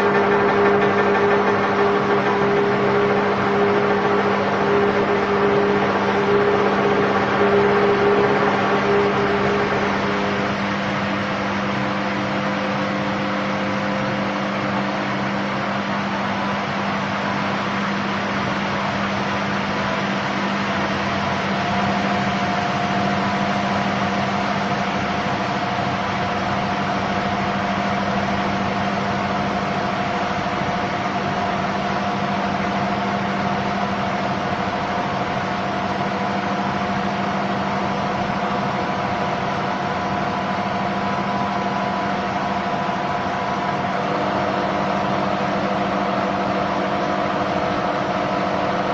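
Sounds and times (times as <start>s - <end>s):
high-pitched whine: 0.0s - 48.9s
washing machine spinning hum: 0.0s - 48.9s.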